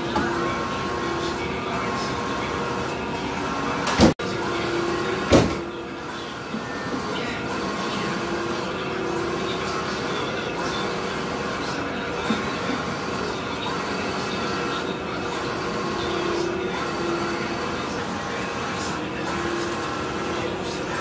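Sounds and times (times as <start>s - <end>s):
printer carriage whirring: 0.0s - 21.0s.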